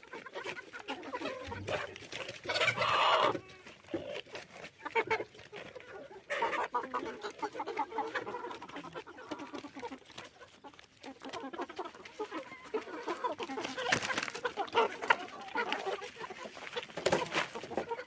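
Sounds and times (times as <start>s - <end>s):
chickens clucking and calling: 0.0s - 18.0s.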